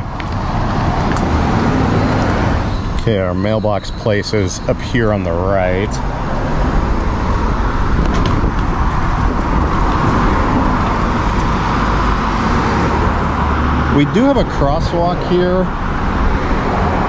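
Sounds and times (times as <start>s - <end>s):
cars going by: 0.0s - 17.0s.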